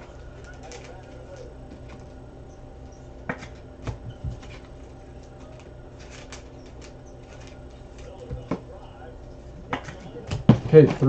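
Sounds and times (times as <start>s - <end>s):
cards rustling and clicking: 0.0s - 2.2s, 3.3s - 11.0s
steady low hum: 0.0s - 11.0s.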